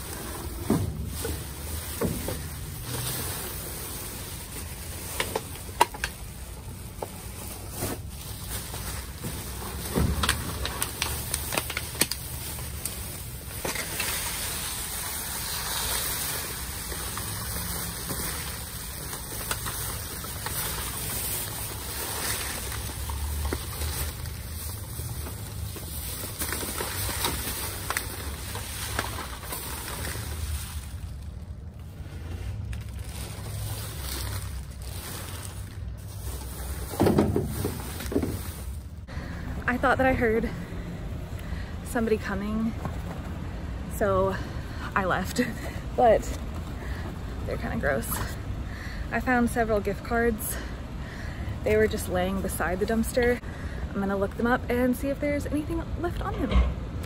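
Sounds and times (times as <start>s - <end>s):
trash rustling: 0.0s - 48.7s.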